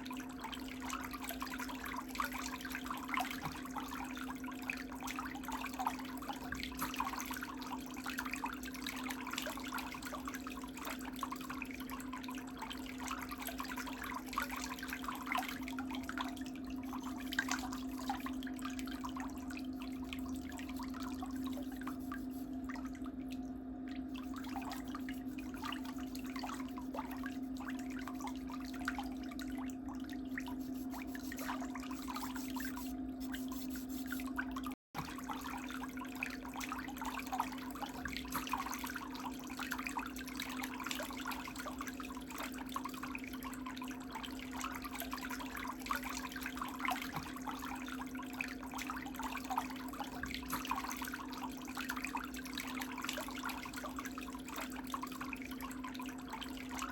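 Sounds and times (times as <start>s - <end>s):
steady low hum: 0.0s - 56.9s
water trickling and dripping: 0.0s - 56.9s.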